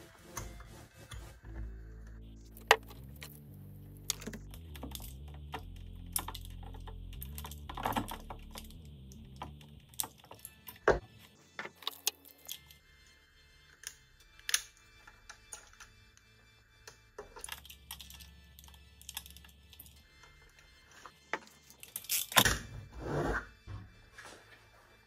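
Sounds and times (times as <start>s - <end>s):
quiet background music: 0.0s - 25.0s.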